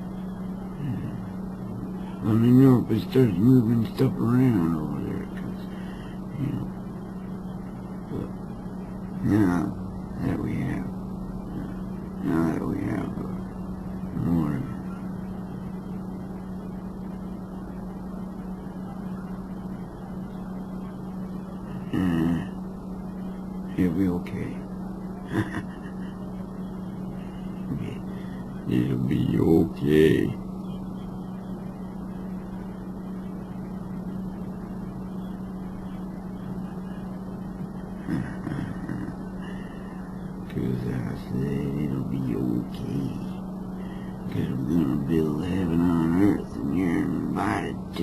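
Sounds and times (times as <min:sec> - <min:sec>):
constant low hum: 0:00.0 - 0:48.0.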